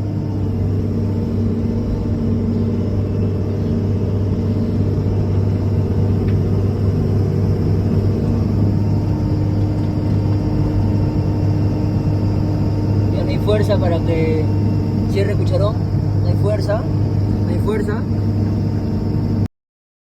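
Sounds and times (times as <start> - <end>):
excavator diesel engine running: 0.0 - 19.4
high engine tone: 0.0 - 19.5.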